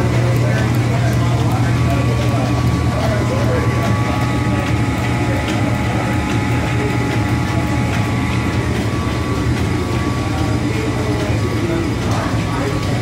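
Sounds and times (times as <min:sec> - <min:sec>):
machinery humming with whine: 0:00.0 - 0:13.0.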